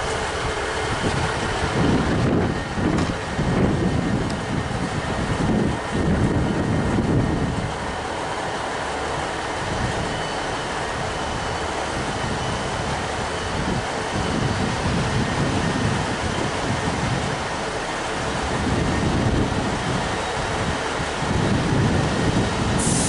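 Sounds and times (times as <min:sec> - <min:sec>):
train engine idling: 0:00.0 - 0:23.0.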